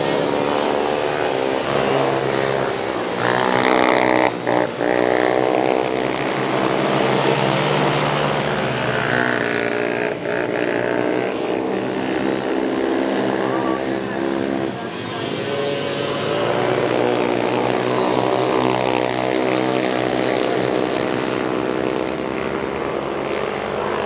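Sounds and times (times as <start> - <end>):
atv engines revving: 0.0 - 24.0.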